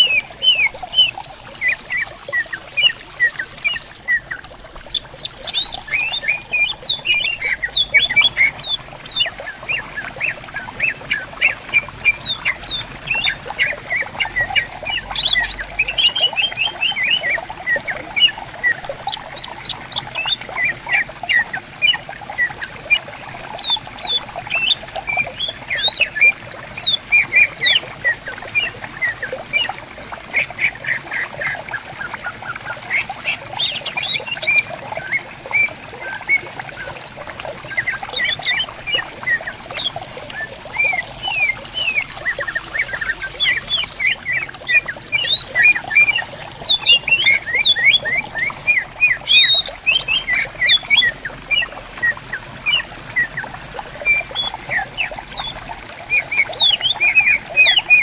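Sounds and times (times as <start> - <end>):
birds singing and chirping: 0.0 - 58.0
stream trickling: 0.0 - 58.0.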